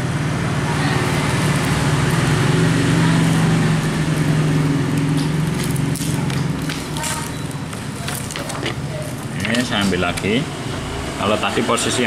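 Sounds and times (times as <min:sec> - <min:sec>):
printer motor hum: 0:00.0 - 0:11.9.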